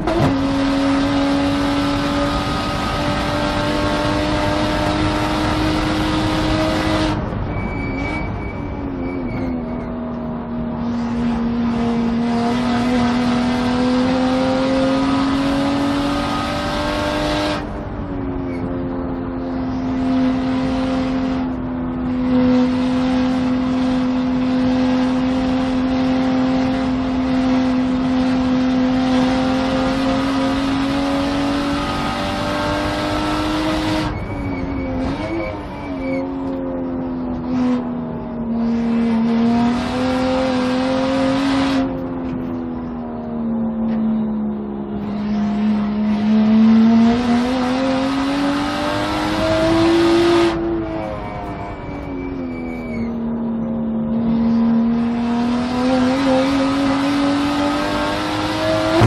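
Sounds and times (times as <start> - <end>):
race car engine at high revs: 0.0 - 7.5, 9.2 - 51.4, 52.8 - 59.0.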